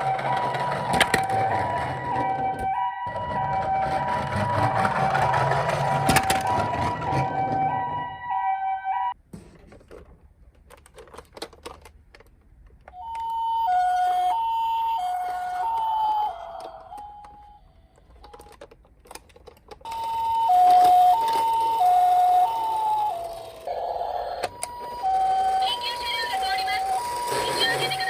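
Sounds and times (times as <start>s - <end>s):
toy siren two-tone: 0.0s - 9.2s, 13.0s - 18.5s, 19.9s - 28.0s.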